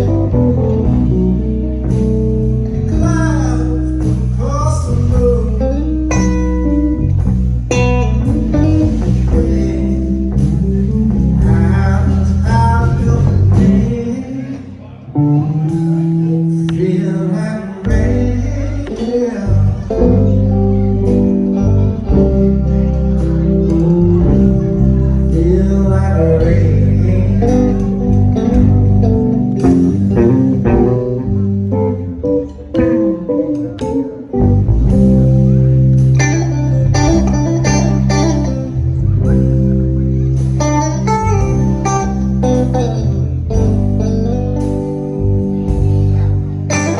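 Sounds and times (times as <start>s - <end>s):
guitar playing: 0.0s - 46.9s
live blues band: 0.0s - 46.9s.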